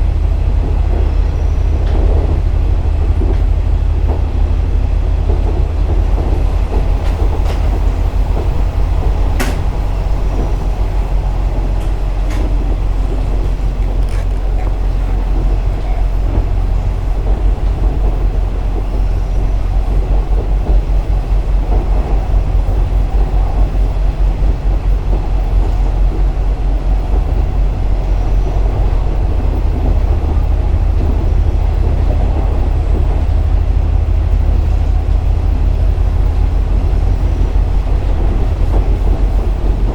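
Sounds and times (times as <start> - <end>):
diesel engine rumble: 0.0 - 39.9
wheels on rails: 0.0 - 39.9.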